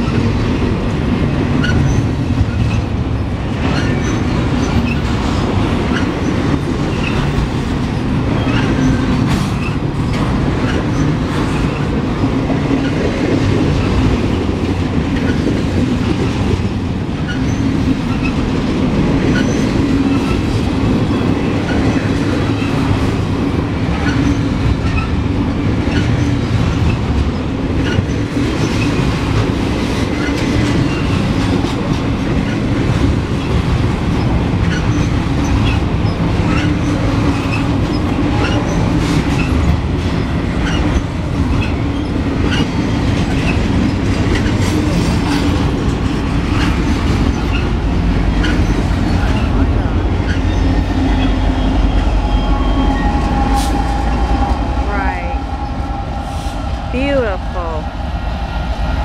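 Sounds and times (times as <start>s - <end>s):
wheels clicking over rail joints: 0.0s - 52.1s
freight train rolling past: 0.0s - 59.0s.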